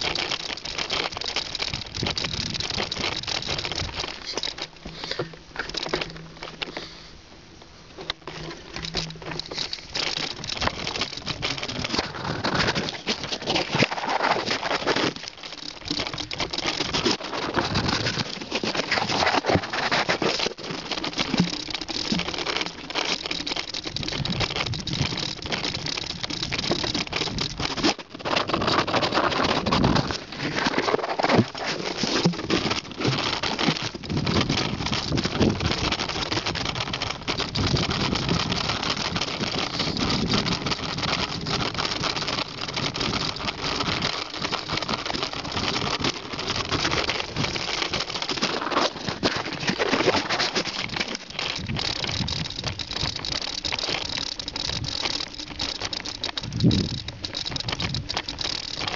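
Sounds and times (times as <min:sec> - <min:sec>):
bicycle rattling over stones: 0:00.0 - 0:58.9.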